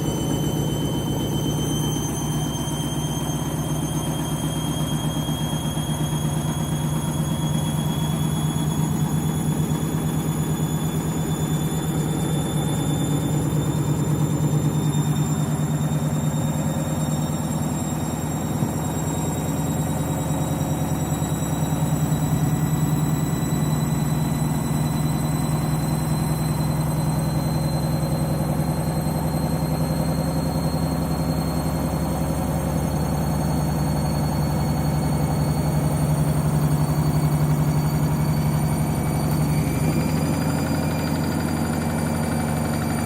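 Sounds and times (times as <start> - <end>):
high motor whine: 0.0 - 43.0
washing machine spinning: 0.0 - 43.0.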